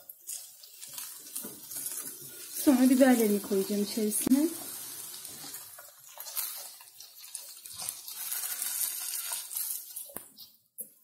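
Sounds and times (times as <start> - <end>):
potatoes sizzling in oil: 0.0 - 10.5
spatula scraping a pan: 0.2 - 3.8, 4.6 - 10.6.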